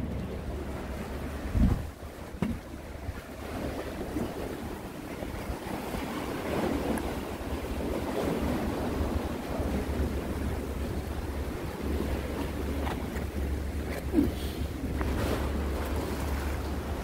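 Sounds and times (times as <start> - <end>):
sea waves washing on concrete: 0.0 - 17.0
wind buffeting microphone: 0.0 - 17.0.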